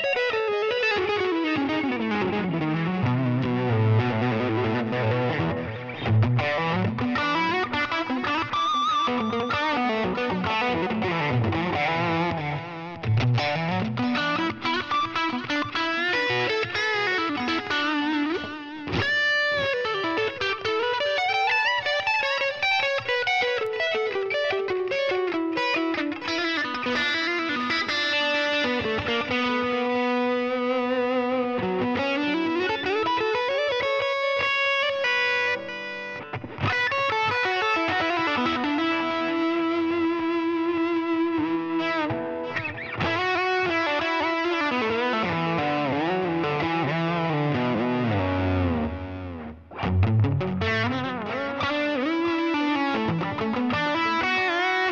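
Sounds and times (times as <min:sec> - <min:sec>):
distorted electric guitar solo: 0:00.0 - 0:54.9.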